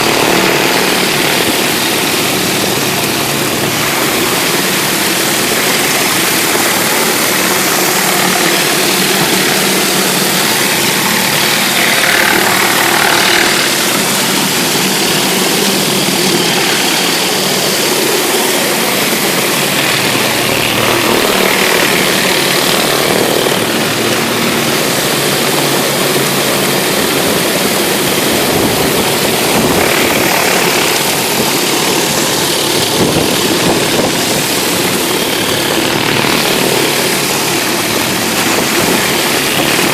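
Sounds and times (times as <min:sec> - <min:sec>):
high-pressure water jet hissing: 0:00.0 - 0:39.9
pressure washer engine drone: 0:00.0 - 0:39.9.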